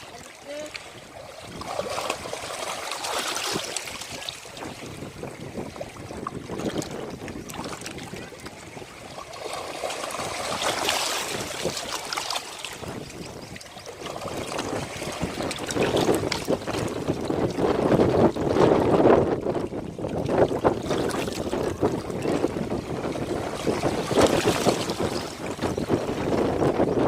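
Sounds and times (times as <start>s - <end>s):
ocean waves washing onto beach: 0.0s - 27.0s.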